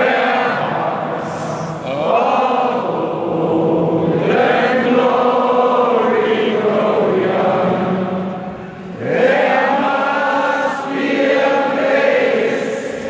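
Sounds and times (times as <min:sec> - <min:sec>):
crowd singing together: 0:00.0 - 0:13.0.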